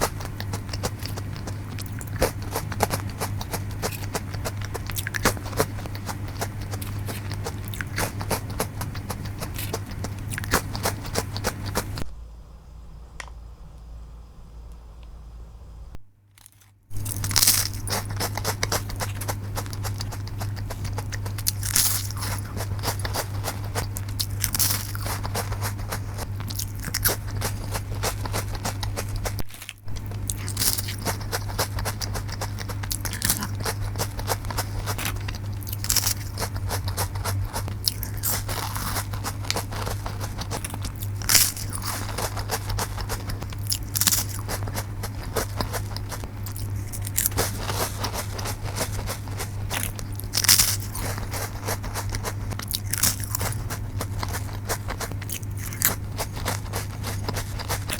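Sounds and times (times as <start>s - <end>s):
crunching and chewing crackers: 0.0s - 12.2s, 16.3s - 57.9s.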